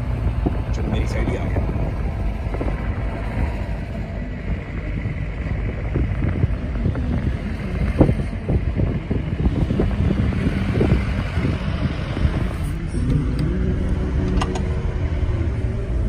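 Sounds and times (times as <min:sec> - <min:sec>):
vehicle road and engine rumble: 0:00.0 - 0:16.0
wind buffeting microphone: 0:00.0 - 0:16.0.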